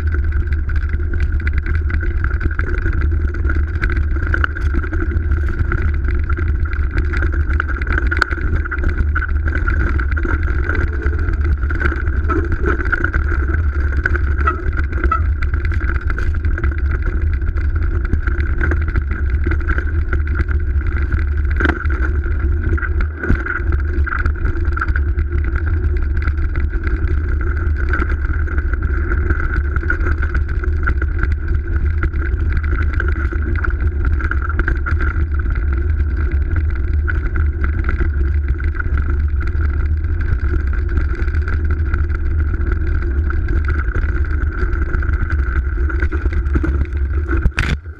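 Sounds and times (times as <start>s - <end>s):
mountain bike rolling rumble: 0.0s - 47.9s.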